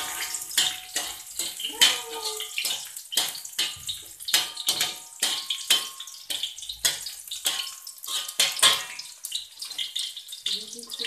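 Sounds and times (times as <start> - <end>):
metal spatula scraping a wok: 0.0 - 10.0
garlic sizzling in hot oil: 0.0 - 11.0.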